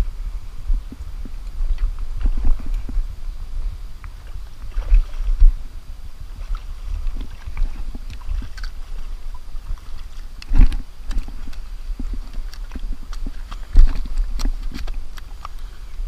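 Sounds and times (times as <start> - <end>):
low wind rumble on microphone: 0.0 - 16.0
water splashing: 0.0 - 16.0.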